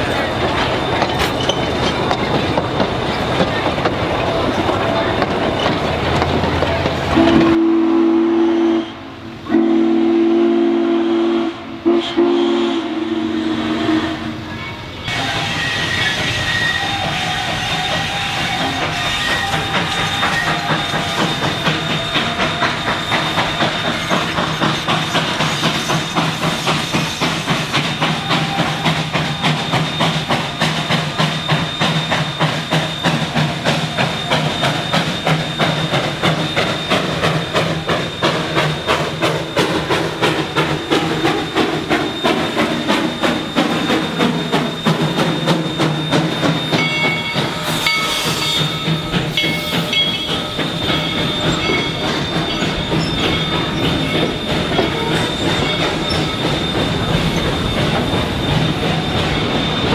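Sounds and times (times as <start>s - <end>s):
steam locomotive exhaust chuffing: 0.0s - 59.9s
steam locomotive whistle blasts: 7.0s - 59.9s.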